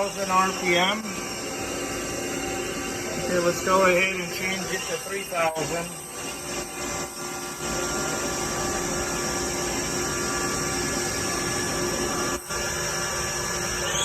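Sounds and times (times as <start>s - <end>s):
lathe spindle whining: 0.0s - 14.0s
mechanical hum: 0.0s - 14.0s.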